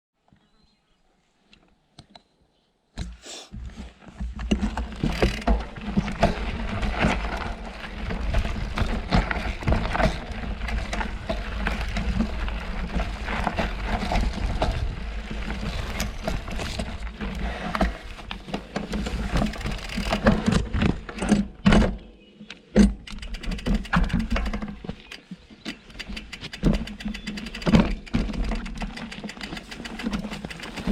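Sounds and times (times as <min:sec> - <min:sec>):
bike rattles and knocks: 0:03.0 - 0:30.9
bike tyres on dirt trail: 0:03.5 - 0:22.1, 0:22.8 - 0:30.9.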